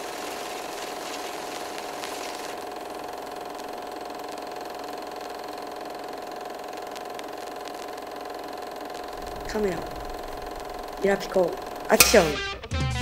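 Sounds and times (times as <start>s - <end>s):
film projector whirring: 0.0s - 12.6s.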